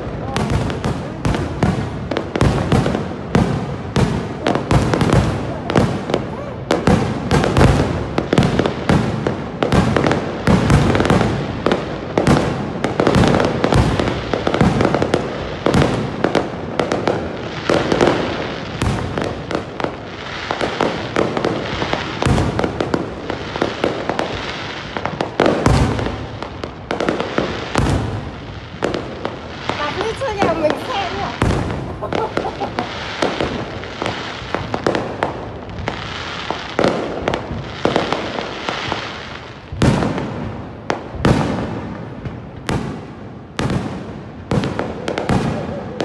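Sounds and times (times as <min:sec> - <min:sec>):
fireworks bangs and crackles: 0:00.0 - 0:46.0.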